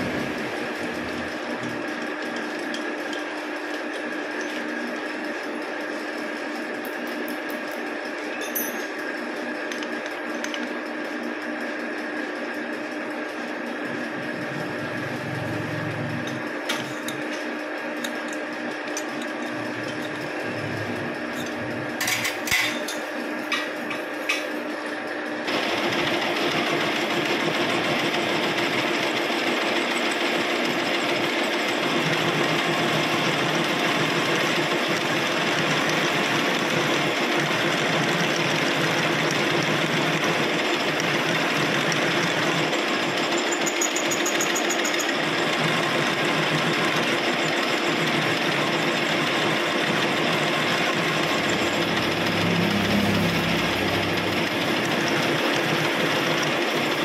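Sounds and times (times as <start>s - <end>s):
metal lathe running: 0.0s - 57.0s.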